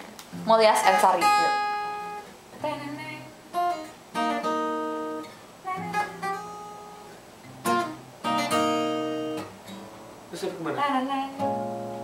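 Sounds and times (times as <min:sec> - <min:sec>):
acoustic guitar strumming chords: 0:00.3 - 0:12.0.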